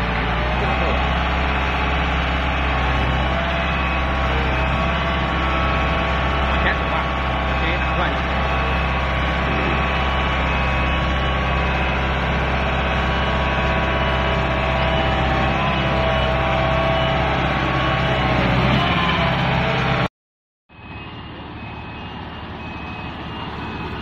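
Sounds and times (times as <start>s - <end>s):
tracked robot machinery drone: 0.0s - 20.0s.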